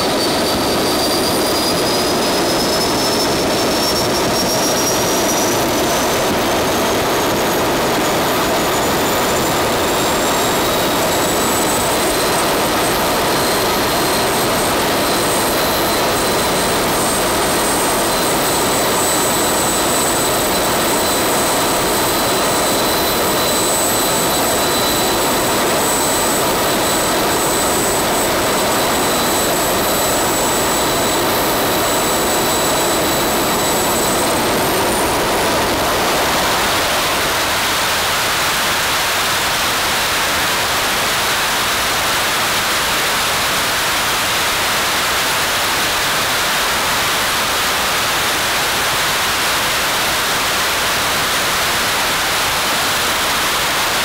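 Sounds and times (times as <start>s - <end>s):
model turbojet engine roaring: 0.0s - 54.0s.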